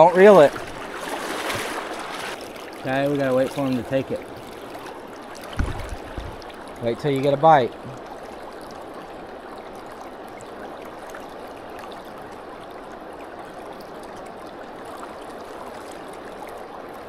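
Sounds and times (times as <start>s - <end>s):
shallow river water flowing: 0.0s - 17.0s
small water splashes: 0.0s - 17.0s.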